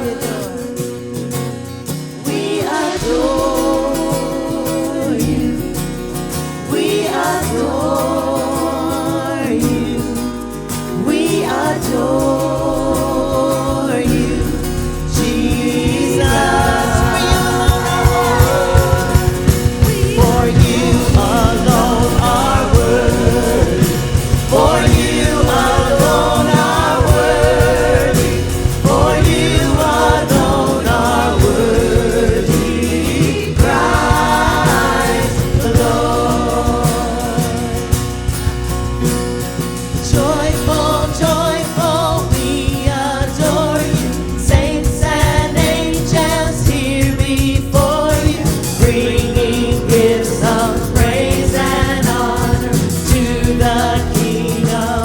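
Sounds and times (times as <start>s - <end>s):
steady drum beat: 0.0s - 1.3s, 2.2s - 55.0s
singers with vibrato: 0.0s - 1.4s, 2.1s - 38.3s, 40.0s - 55.0s
bass and keys: 0.0s - 55.0s.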